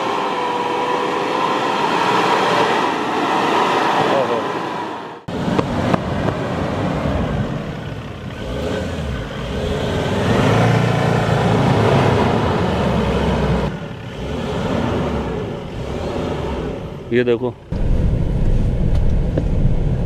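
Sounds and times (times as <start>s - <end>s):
diesel engine revving: 0.0s - 20.0s.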